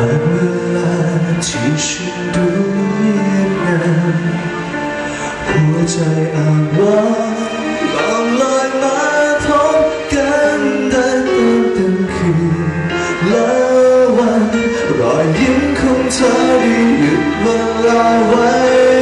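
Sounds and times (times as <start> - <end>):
man singing into microphone: 0.0 - 4.8, 5.4 - 19.0
band accompaniment: 0.0 - 19.0.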